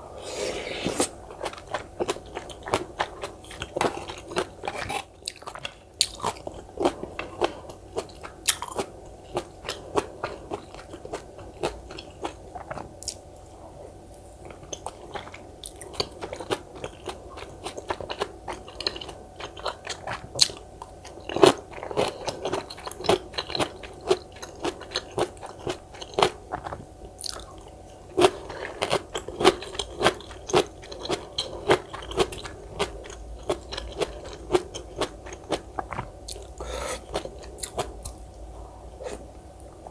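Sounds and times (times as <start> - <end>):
crunching and chewing: 0.7 - 13.5, 14.1 - 38.4.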